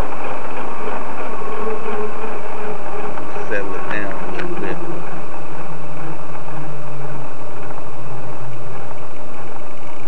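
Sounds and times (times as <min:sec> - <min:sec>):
model helicopter engine whirring: 0:00.0 - 0:10.0.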